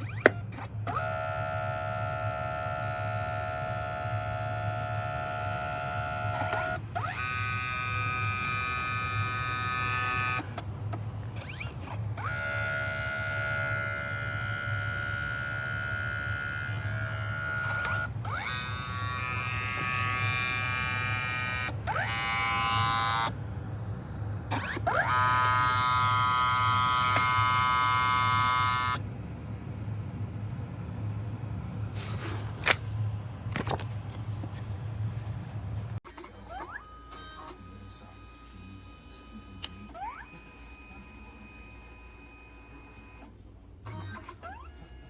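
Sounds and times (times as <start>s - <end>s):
printer motor whine: 0.0s - 29.5s, 31.6s - 45.0s
steady low hum: 0.0s - 45.0s.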